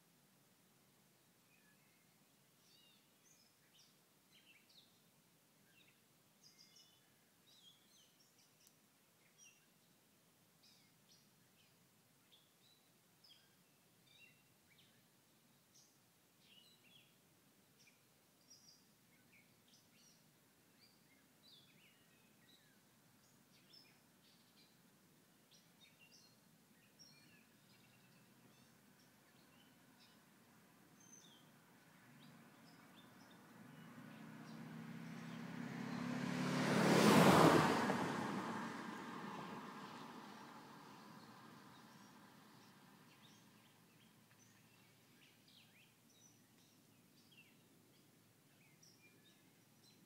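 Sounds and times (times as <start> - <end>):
faint bird chirps: 1.4 - 10.0, 10.6 - 36.1, 39.8 - 50.0.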